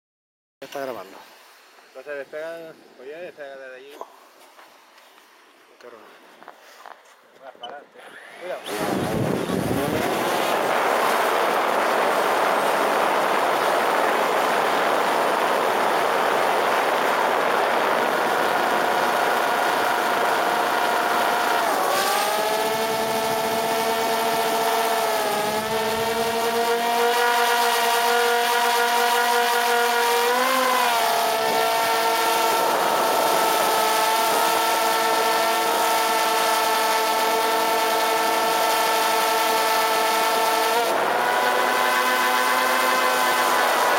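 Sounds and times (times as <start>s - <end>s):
drone motor whine: 8.1s - 43.9s
drone propellers rushing: 8.2s - 43.9s.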